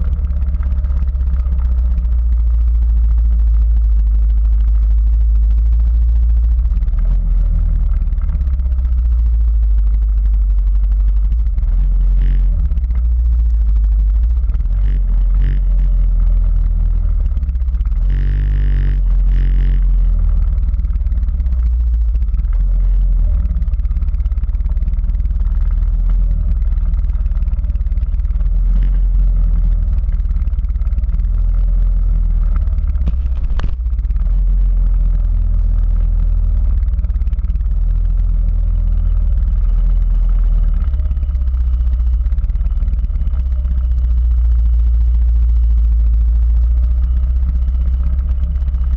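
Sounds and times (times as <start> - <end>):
quad bike engine rumbling: 0.0 - 48.9.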